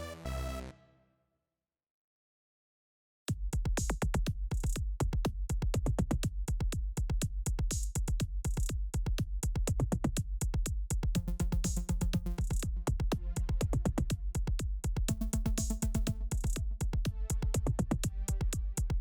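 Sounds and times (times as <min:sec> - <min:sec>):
drum machine beat: 0:03.3 - 0:19.0.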